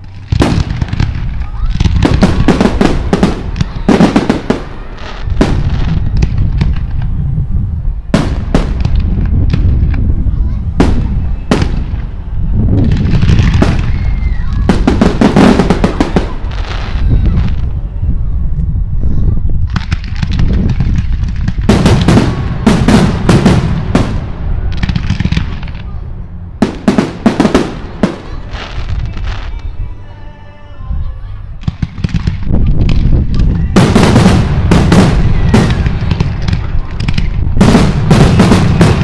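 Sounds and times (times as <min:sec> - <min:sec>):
fireworks bursting and crackling: 0:00.0 - 0:07.3, 0:07.9 - 0:17.8, 0:19.6 - 0:29.8, 0:31.6 - 0:39.0.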